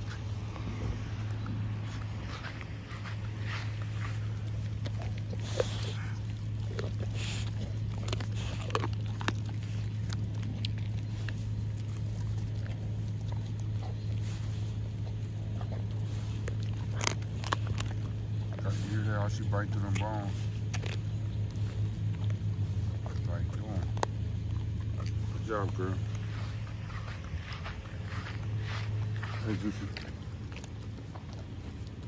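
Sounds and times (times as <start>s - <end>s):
dog crunching bones: 0.0s - 32.0s
steady low hum: 0.0s - 32.0s.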